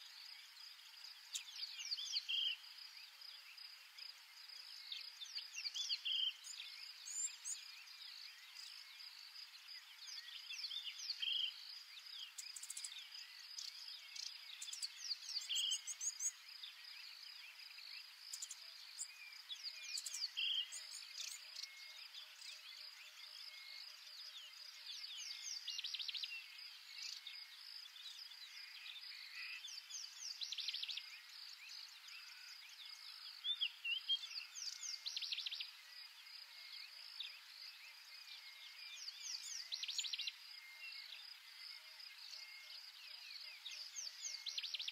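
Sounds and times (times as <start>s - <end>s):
insect chorus: 0.0s - 44.9s.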